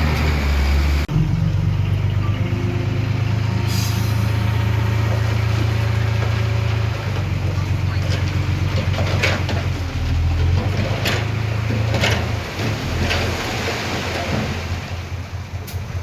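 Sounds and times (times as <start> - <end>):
diesel machine engine hum: 0.0 - 16.0.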